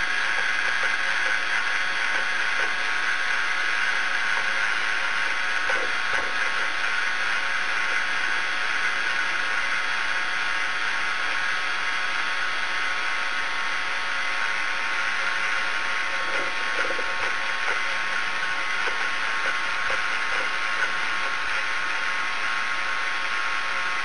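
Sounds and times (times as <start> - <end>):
teleprinter mechanical whir: 0.0 - 24.0.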